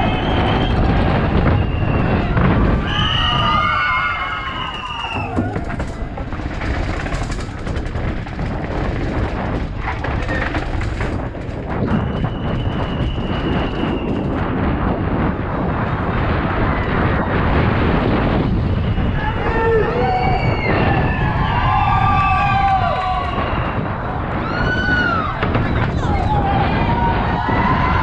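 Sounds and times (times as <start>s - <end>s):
mountain bike rattling: 0.0s - 28.0s
wind on microphone: 0.0s - 28.0s.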